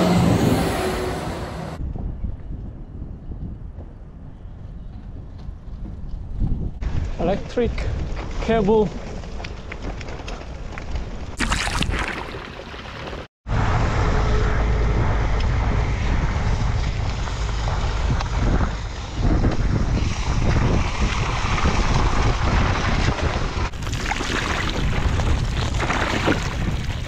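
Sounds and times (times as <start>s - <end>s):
wind buffeting microphone: 1.8s - 11.4s, 13.8s - 27.0s.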